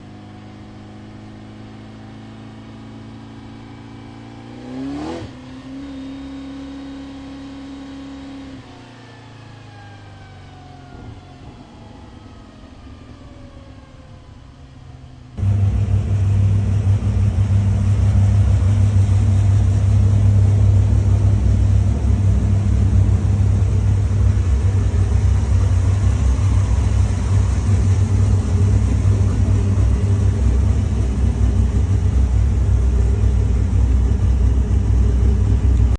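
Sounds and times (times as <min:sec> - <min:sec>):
loud low engine drone: 0:00.0 - 0:35.9
truck engine idling and revving: 0:00.0 - 0:35.9.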